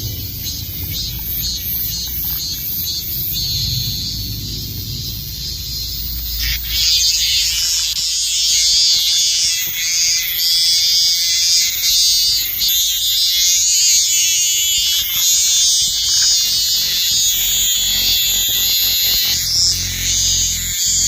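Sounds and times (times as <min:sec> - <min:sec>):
animals calling buzzing trill: 0:00.0 - 0:21.0.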